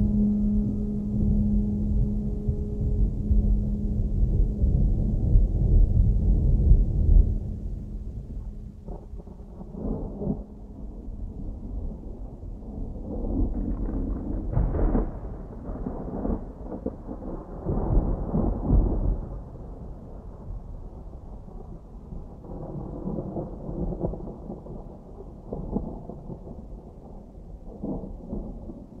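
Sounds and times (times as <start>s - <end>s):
thunder rumbling: 0.0s - 29.0s.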